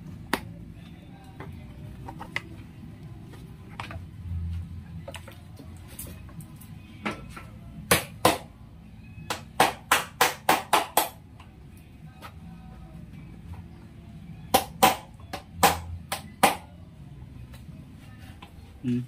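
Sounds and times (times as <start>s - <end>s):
faint background music: 0.0s - 19.0s.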